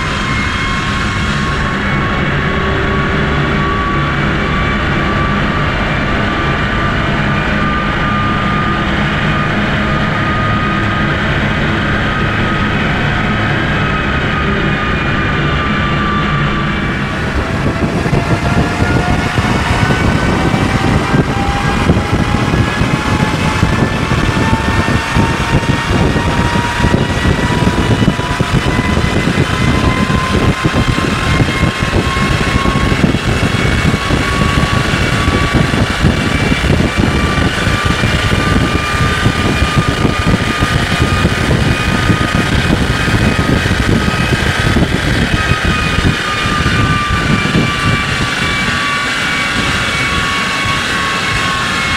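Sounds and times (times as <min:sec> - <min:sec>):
diesel engine under full load: 0:00.0 - 0:51.9
rising whine: 0:00.0 - 0:51.9.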